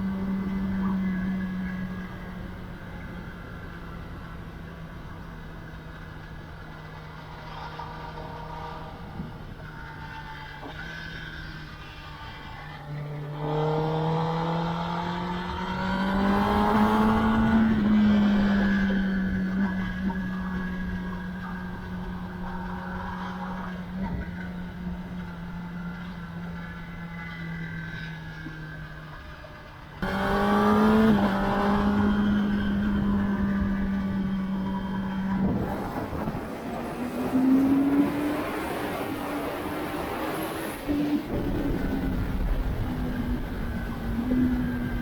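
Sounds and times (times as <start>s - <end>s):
motorcycle engine under throttle: 0.0s - 45.0s.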